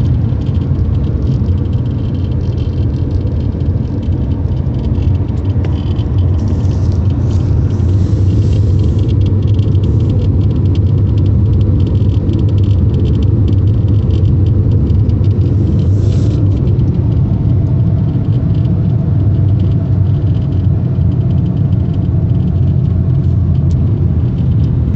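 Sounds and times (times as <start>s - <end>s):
car road and engine rumble: 0.0s - 24.9s
rapid crackling tick: 0.0s - 24.9s.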